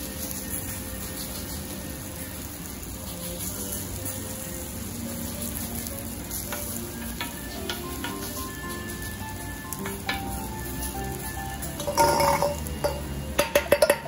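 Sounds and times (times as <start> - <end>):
batter sizzling on griddle: 0.0 - 14.0.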